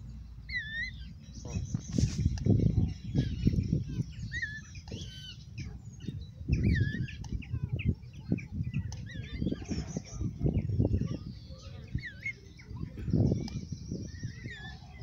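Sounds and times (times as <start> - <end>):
low muffled rumbling: 0.0 - 15.0
songbirds singing: 0.0 - 15.0.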